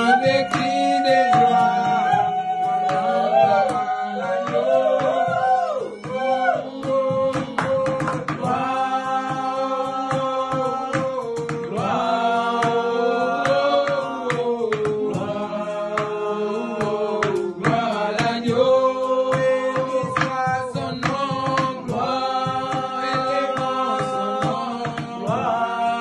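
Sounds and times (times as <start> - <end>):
sharp percussive beats: 0.0 - 26.0
voices singing worship song: 0.0 - 26.0.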